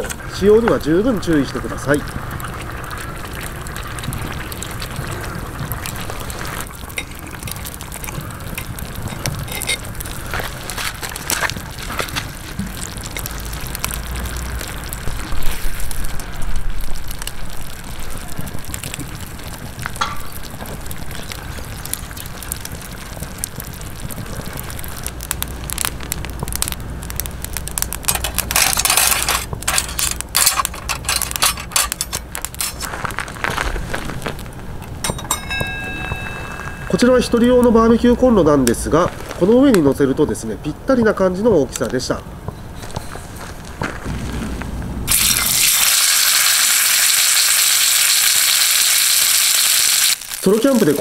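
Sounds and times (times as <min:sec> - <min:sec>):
campfire crackling: 0:00.0 - 0:51.0
stew simmering and bubbling: 0:00.0 - 0:51.0.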